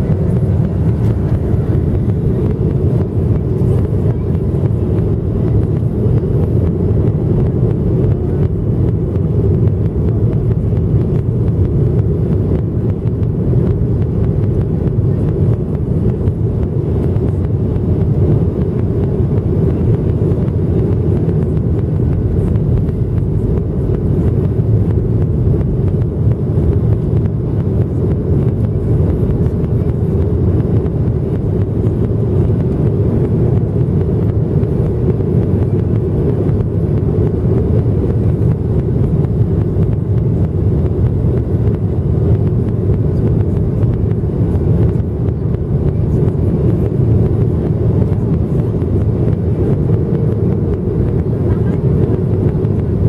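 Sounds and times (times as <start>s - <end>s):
airplane cabin engine rumble: 0.0s - 53.0s.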